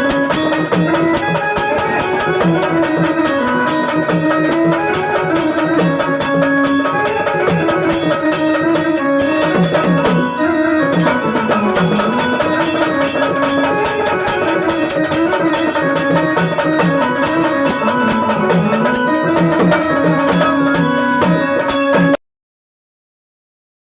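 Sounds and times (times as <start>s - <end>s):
hand drums fast rhythm: 0.0s - 22.2s
wavering melody line: 0.0s - 22.2s.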